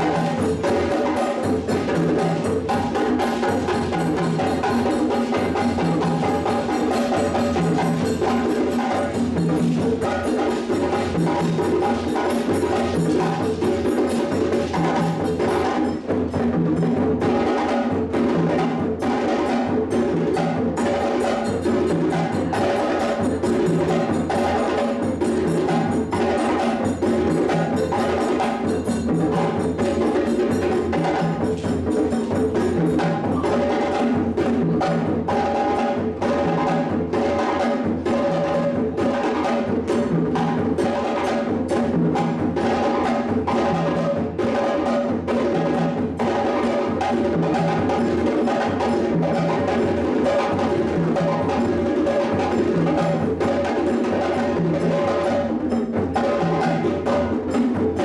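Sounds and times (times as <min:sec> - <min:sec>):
hand drums playing rhythm: 0:00.0 - 0:58.0.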